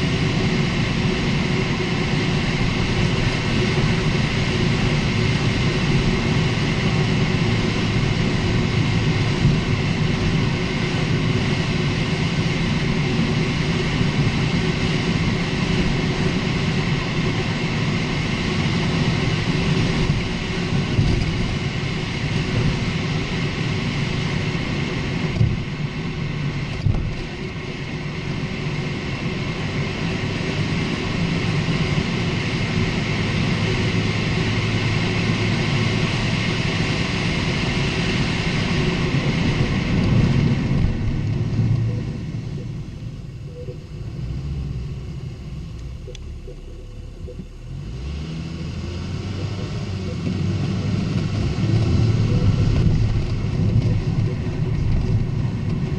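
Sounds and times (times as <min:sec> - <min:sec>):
car road noise: 0:00.0 - 0:55.9.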